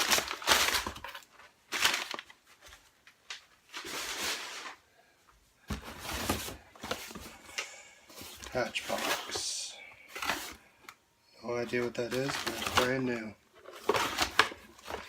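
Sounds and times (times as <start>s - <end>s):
packaging rustling and crinkling: 0.0s - 4.8s, 5.7s - 15.0s.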